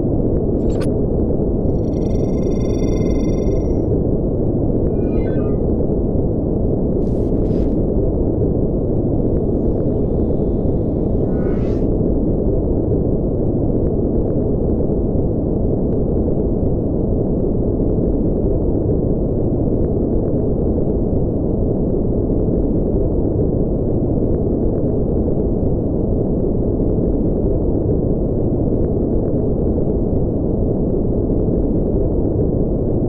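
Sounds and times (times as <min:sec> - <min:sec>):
steady low rumbling noise: 0:00.0 - 0:33.0.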